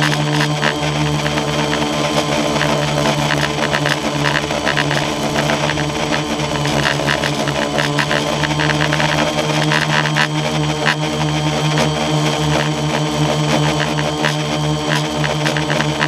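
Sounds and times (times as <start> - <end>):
drone motors humming: 0.0 - 16.0.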